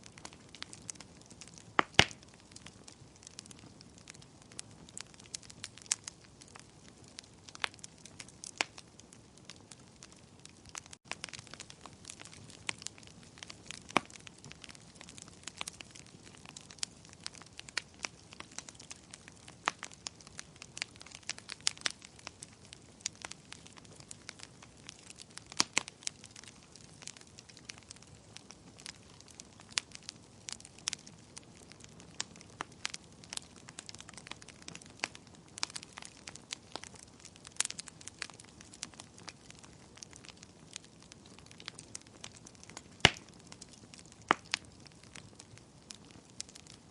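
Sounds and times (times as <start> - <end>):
fire crackling and popping: 0.0 - 46.9
low hiss of fire: 0.0 - 46.9.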